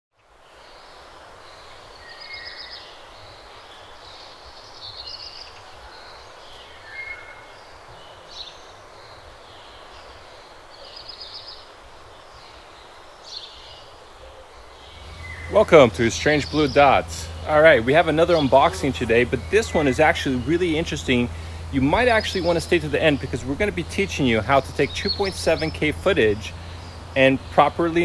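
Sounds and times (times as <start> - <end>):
steady hiss: 0.2 - 28.0
birds chirping and trilling: 0.6 - 28.0.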